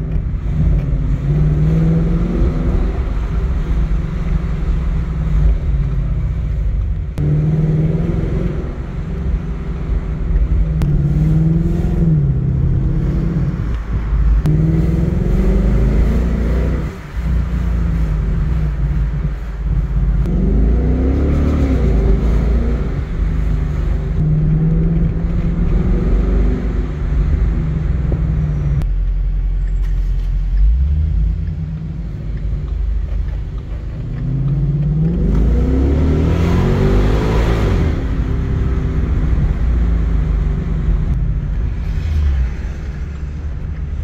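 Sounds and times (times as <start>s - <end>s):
car engine revving: 0.0s - 28.9s, 30.4s - 44.0s.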